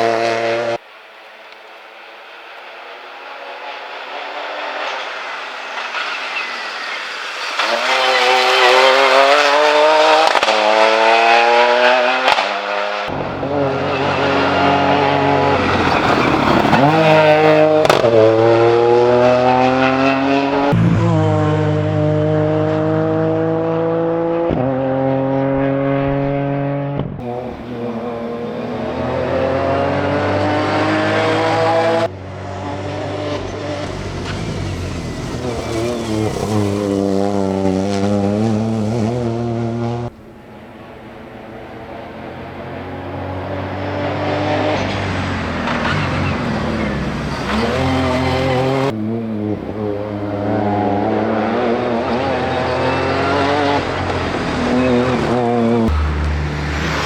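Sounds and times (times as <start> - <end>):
rally car engine revving: 0.0 - 0.8, 2.6 - 57.0.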